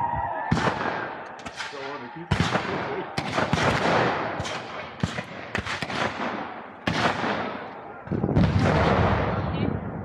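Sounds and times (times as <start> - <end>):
echoing gunshots: 0.3 - 10.0.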